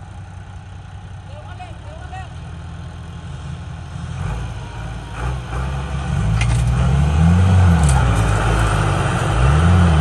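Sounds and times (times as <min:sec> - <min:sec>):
tractor diesel engine revving: 0:00.0 - 0:10.0.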